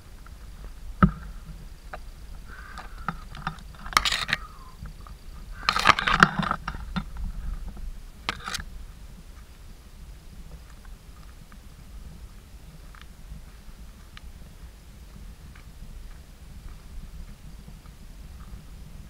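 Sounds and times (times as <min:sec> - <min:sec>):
footsteps on stony path: 0:00.0 - 0:19.0.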